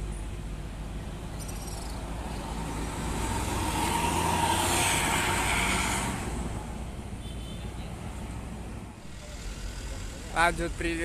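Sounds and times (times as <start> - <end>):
bus driving past: 0.0 - 7.2, 7.9 - 11.0.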